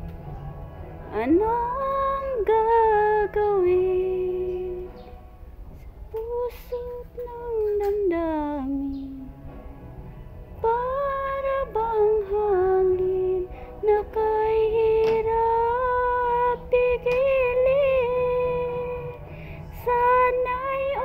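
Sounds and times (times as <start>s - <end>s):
woman singing slow song: 1.1s - 5.2s, 6.1s - 9.4s, 10.6s - 21.0s.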